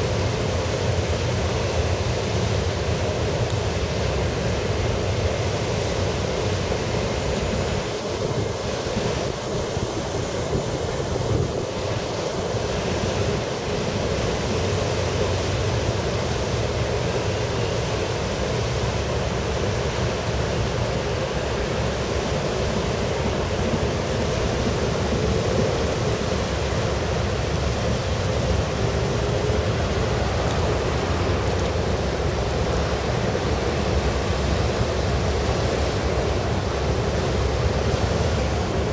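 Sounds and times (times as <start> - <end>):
propeller wash churning water: 0.0 - 38.9.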